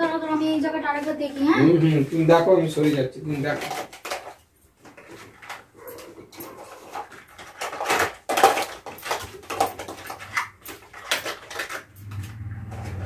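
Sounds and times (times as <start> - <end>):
small bottles clattering: 0.0 - 13.0.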